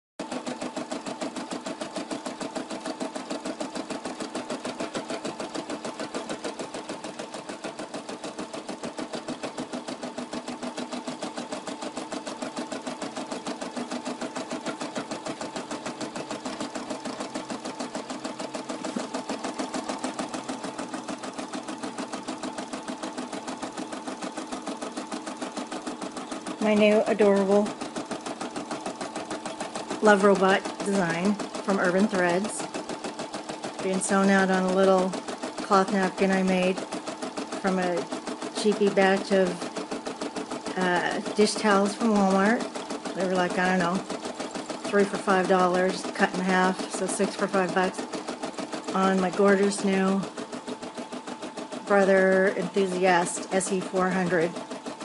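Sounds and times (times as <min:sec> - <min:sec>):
sewing machine stitching: 0:00.2 - 0:55.0.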